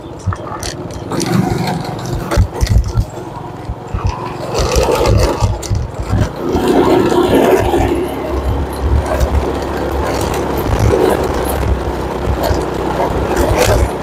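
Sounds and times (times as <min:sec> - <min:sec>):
motorbike engine running: 0:00.0 - 0:14.0
motorbike passing by: 0:00.0 - 0:14.0
wind buffeting microphone: 0:00.0 - 0:14.0.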